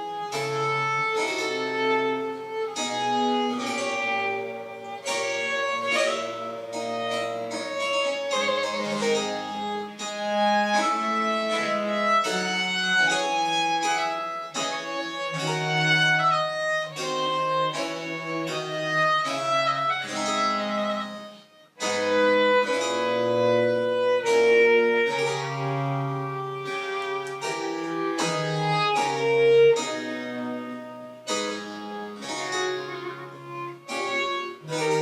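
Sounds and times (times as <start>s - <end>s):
bowed string melody: 0.0s - 35.0s
plucked strings: 0.0s - 35.0s.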